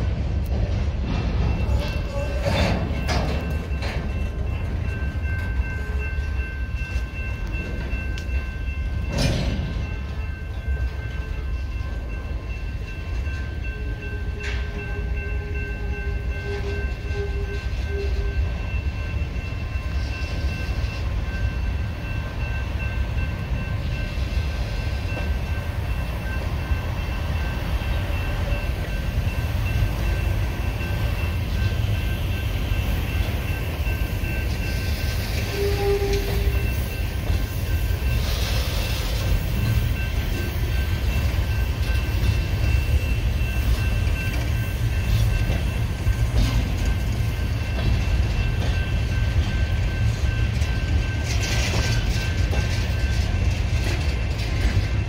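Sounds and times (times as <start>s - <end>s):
train wheels rumbling on rails: 0.0s - 55.0s
high-pitched ringing: 1.5s - 55.0s.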